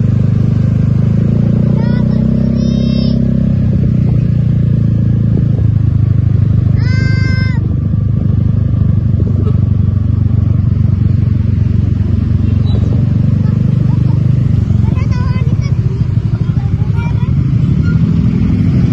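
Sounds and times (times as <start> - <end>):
bus engine rumble: 0.0 - 18.9.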